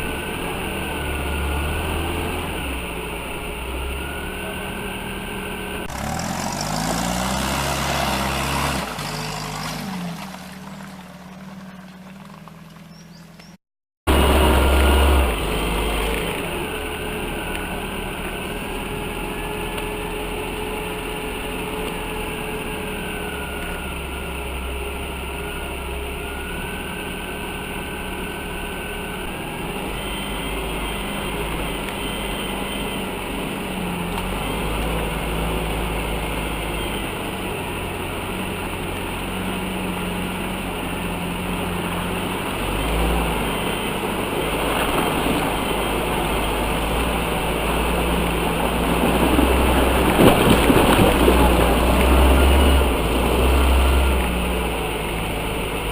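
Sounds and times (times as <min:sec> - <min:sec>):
off-road vehicle engine driving: 0:00.0 - 0:55.9.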